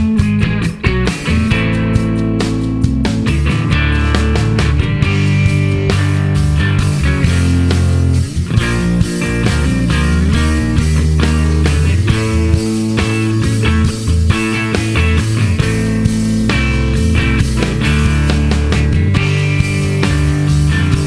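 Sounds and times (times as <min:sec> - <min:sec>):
rock music with electric guitar: 0:00.0 - 0:21.0.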